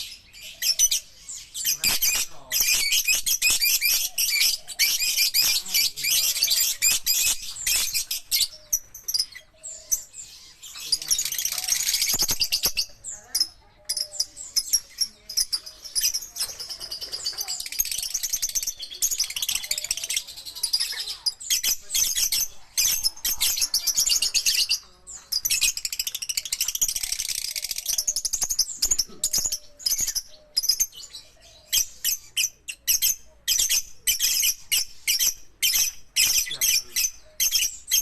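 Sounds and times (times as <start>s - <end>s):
lovebirds chirping: 0.0s - 38.0s.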